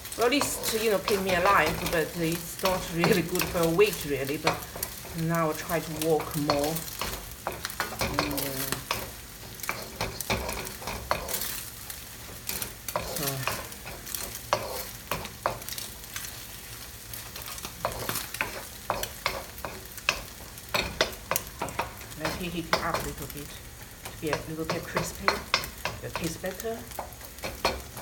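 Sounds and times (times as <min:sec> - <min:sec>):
eggs sizzling in a pan: 0:00.0 - 0:28.0
oil crackling: 0:00.0 - 0:28.0.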